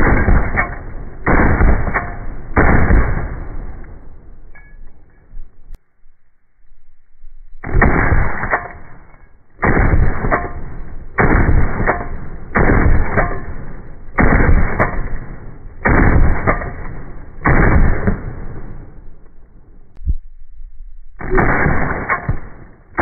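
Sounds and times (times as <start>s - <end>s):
slowed rifle shots booming: 0.0s - 5.1s, 7.6s - 20.0s, 21.2s - 23.0s.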